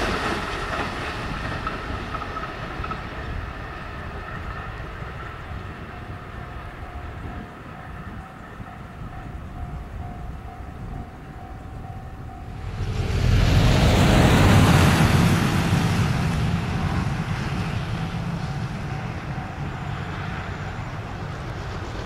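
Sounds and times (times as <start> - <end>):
electric train passing: 0.0 - 22.0.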